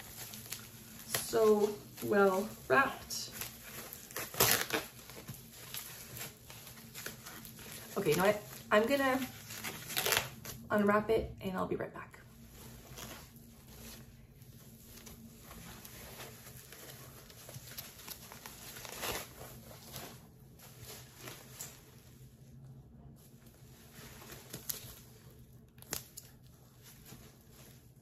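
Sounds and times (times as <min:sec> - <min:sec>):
packing wrap rustling and crinkling: 0:00.0 - 0:10.7, 0:12.4 - 0:22.6, 0:23.2 - 0:28.0.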